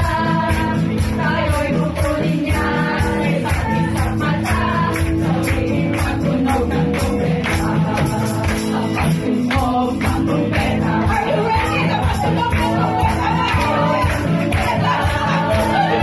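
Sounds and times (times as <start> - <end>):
congregation clapping: 0.0 - 16.0
jingling percussion: 0.0 - 16.0
upbeat worship song: 0.0 - 16.0
woman singing into microphone: 0.0 - 16.0.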